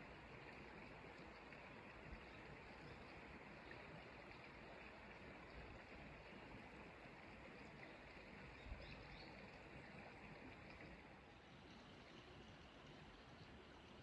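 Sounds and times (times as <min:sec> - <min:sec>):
stream flowing over pebbles: 0:00.0 - 0:14.0.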